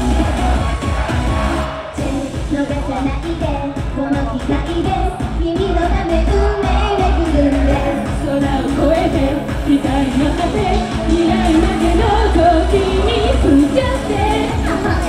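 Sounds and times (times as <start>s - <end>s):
pop song over sound system: 0.0s - 15.0s
person singing: 2.0s - 15.0s.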